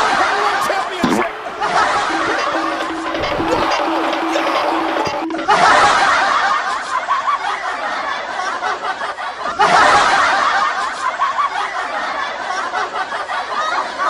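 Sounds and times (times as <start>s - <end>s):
group of people laughing: 0.0s - 14.0s.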